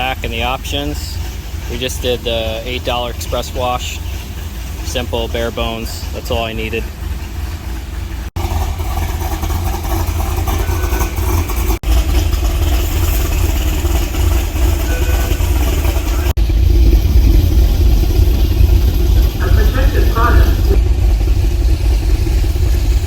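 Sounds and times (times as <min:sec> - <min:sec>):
car engine running: 0:00.0 - 0:23.0
road rumble with hiss: 0:00.0 - 0:23.0.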